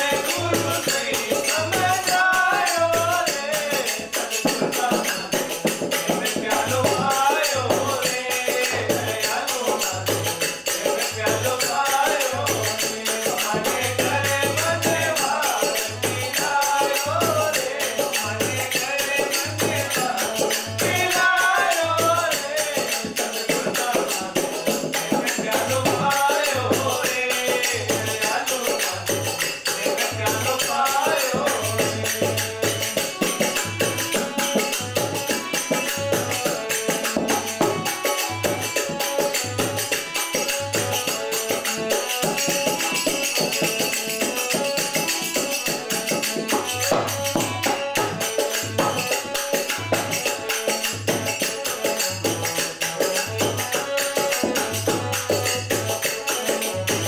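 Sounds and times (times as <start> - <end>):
dholak drum beat: 0.0 - 57.0
harmonium melody: 0.0 - 57.0
men singing: 0.0 - 57.0.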